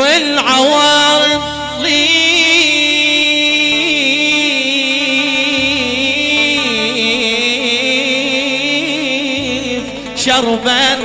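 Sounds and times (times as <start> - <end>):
ornamented vocal melody with vibrato: 0.0 - 11.0.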